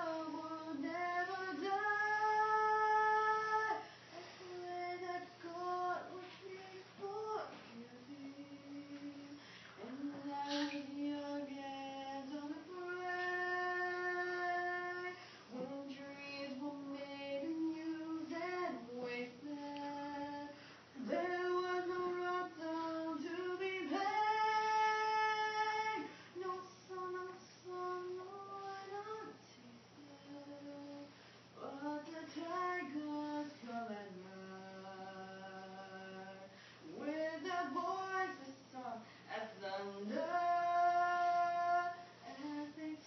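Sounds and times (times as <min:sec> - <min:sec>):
woman singing: 0:00.0 - 0:43.0.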